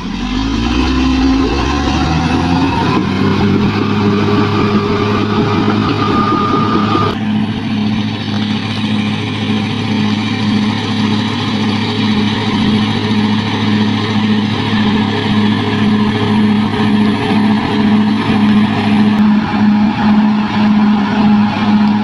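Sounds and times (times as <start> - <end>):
bulldozer diesel engine: 0.0 - 22.0.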